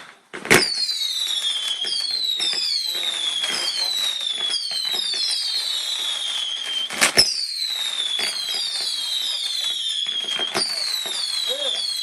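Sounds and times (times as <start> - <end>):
firework bang: 0.0 - 12.0
firework whistles falling in pitch: 0.4 - 12.0.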